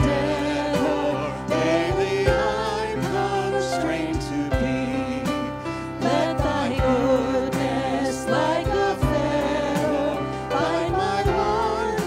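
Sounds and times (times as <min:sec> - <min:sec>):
bass guitar: 0:00.0 - 0:12.0
people singing a hymn: 0:00.0 - 0:12.0.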